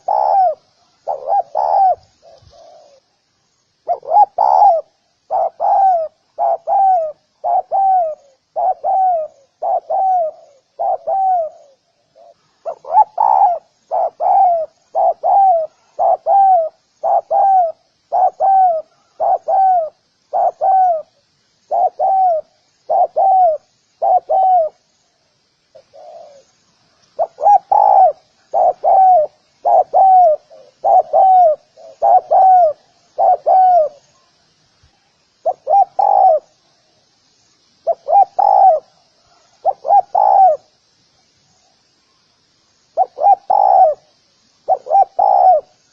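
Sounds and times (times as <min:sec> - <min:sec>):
dove cooing: 0:00.0 - 0:03.1, 0:03.8 - 0:24.8, 0:25.7 - 0:26.5, 0:27.2 - 0:34.3, 0:35.4 - 0:36.6, 0:37.8 - 0:40.7, 0:43.0 - 0:45.9.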